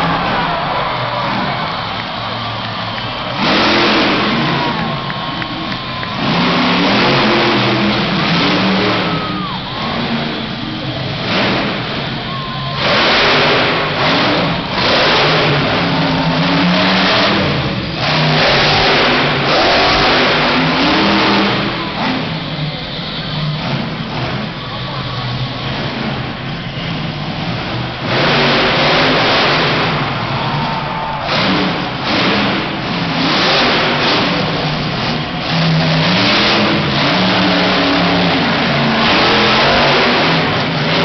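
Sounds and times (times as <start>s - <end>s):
monster truck engine revving: 0.0s - 41.0s.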